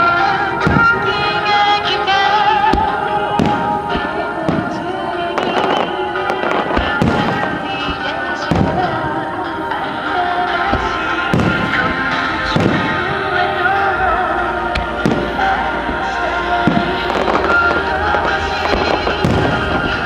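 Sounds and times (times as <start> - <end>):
fireworks bursting with sharp bangs: 0.0 - 20.0
music playing: 0.0 - 20.0.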